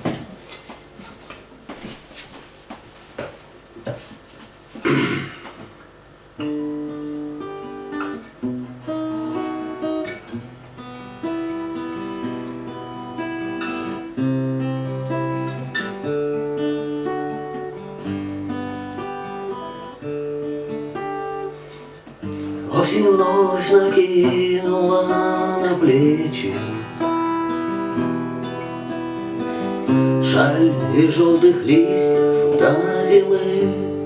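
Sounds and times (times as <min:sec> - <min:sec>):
acoustic guitar playing: 0:06.4 - 0:34.0.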